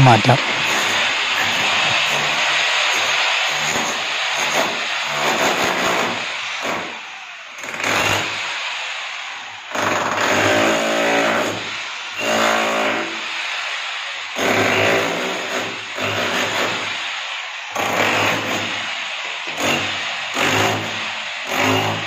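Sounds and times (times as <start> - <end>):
electric chipping hammer on masonry: 0.0 - 22.0.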